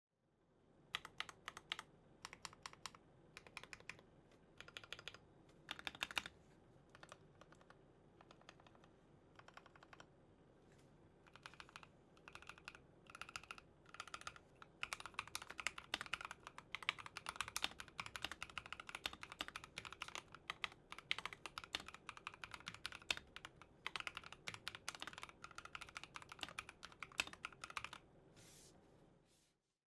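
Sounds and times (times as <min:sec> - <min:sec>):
mechanical keyboard typing: 0:00.9 - 0:04.0, 0:04.6 - 0:06.3, 0:06.9 - 0:10.1, 0:11.2 - 0:28.0.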